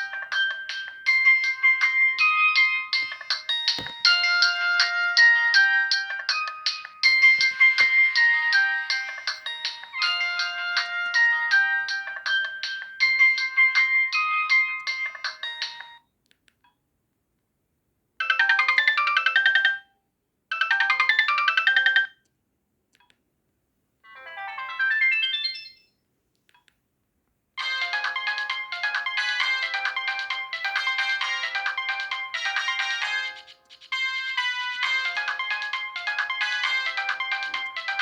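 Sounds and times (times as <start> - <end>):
mobile phone ringtone melodies: 0.0 - 16.0, 18.2 - 19.9, 20.5 - 22.2, 24.1 - 25.9, 27.6 - 38.0.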